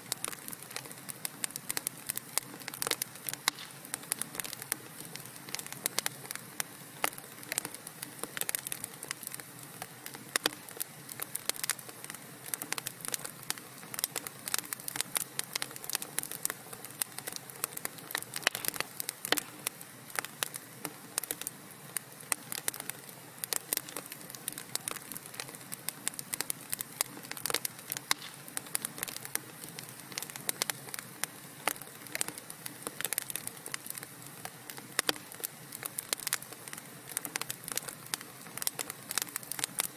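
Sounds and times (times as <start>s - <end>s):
soft fire hiss: 0.0s - 39.9s
wood fire crackling and popping: 0.0s - 39.9s.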